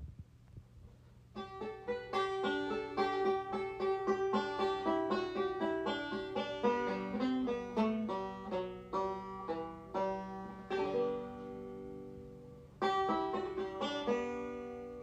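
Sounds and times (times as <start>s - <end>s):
fast banjo picking: 1.3s - 15.0s.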